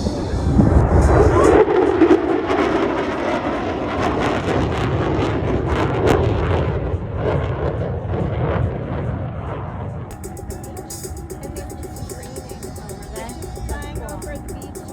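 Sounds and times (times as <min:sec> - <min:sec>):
jet engine rumble with crackling: 0:00.0 - 0:14.9.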